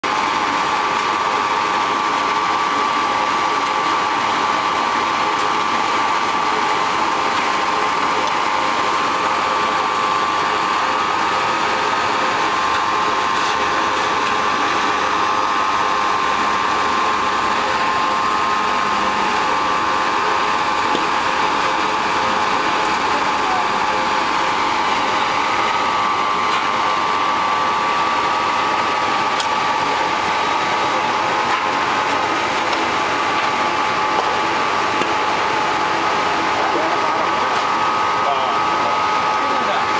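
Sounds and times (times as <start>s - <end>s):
granulator machine whirring: 0.0s - 39.9s.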